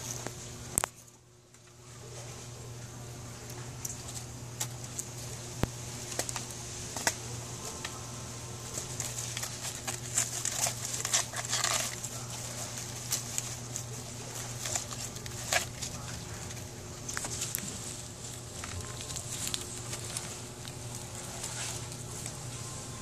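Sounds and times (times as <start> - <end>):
leaves and bark rustling: 0.0 - 23.0
steady low hum: 0.0 - 23.0.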